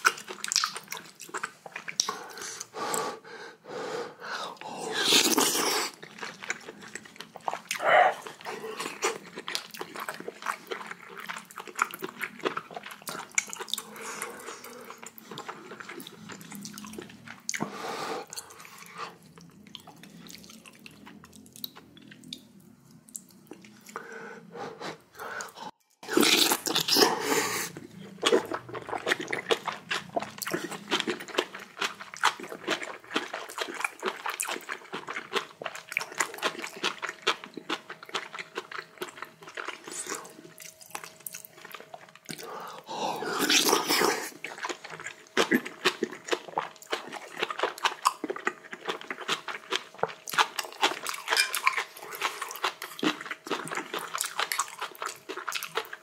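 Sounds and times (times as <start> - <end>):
person chewing food: 0.0 - 3.2, 4.4 - 56.0.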